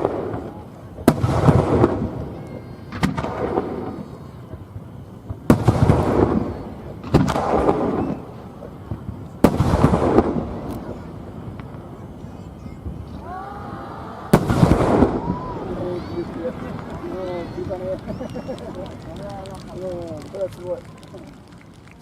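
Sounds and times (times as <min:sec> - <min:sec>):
fireworks bangs: 0:00.0 - 0:22.0
rumbling firework tail: 0:00.0 - 0:22.0.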